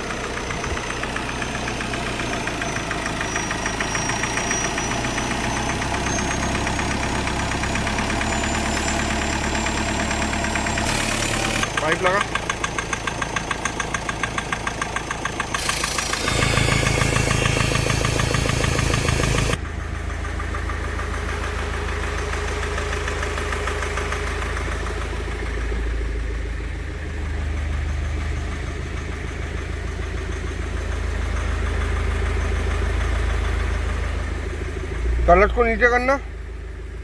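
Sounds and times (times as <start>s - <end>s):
diesel engine knocking: 0.0s - 37.0s.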